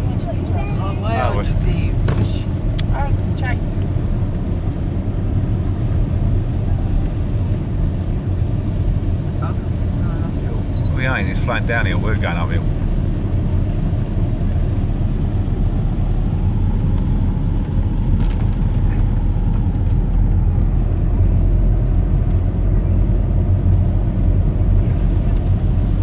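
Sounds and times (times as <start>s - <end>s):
car driving on wet road: 0.0s - 26.0s.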